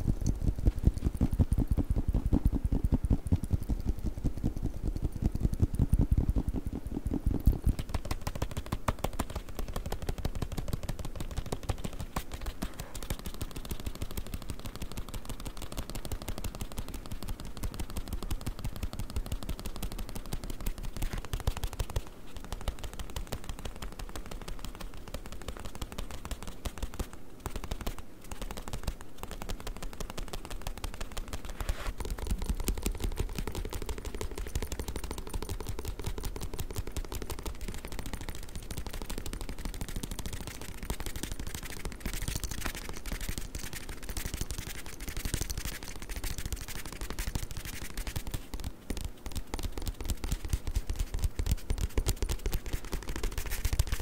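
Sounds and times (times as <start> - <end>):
fast tapping on a book: 0.0 - 54.0.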